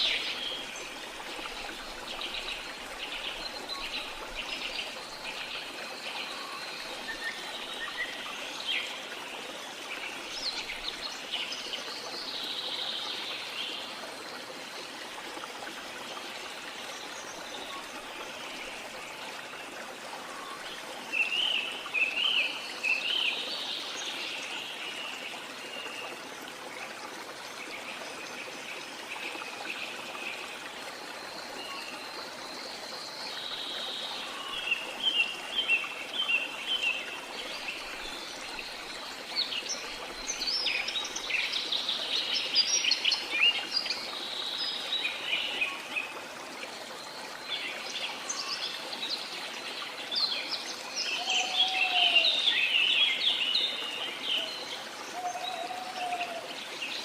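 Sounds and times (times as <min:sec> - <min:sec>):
running water or rain: 0:00.0 - 0:57.0.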